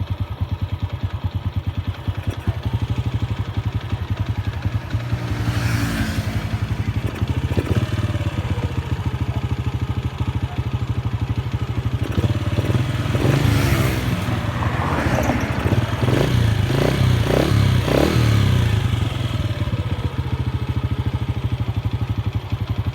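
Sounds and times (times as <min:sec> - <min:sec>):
motorcycle engine idling and revving: 0:00.0 - 0:22.9.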